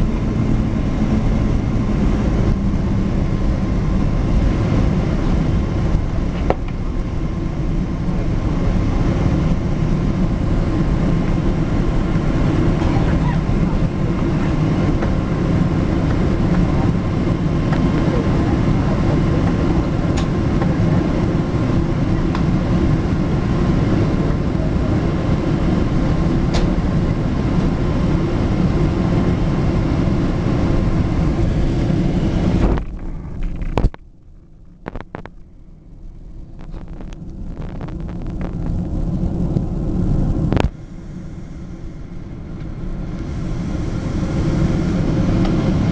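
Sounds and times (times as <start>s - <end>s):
airplane cabin rumble: 0.0s - 45.9s.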